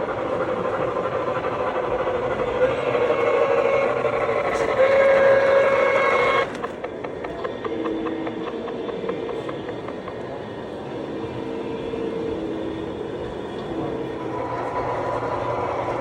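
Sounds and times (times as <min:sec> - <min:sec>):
train running: 0:00.0 - 0:16.0.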